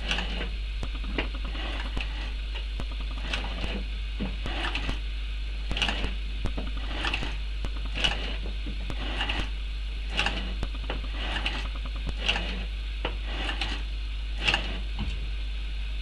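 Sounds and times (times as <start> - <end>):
throttle linkage clicking: 0.0 - 5.0, 5.6 - 14.9
steady low hum: 0.0 - 16.0.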